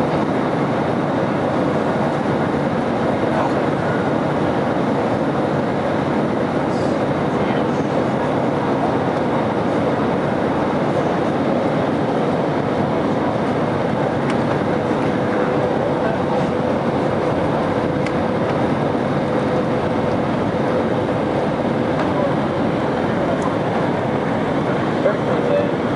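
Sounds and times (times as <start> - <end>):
airplane cabin engine and airflow noise: 0.0 - 25.9.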